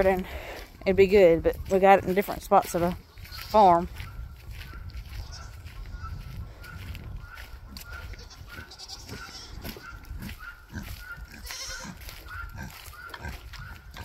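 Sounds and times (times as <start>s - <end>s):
farm animals calling: 0.0s - 14.0s
footsteps crunching on straw: 0.0s - 14.0s.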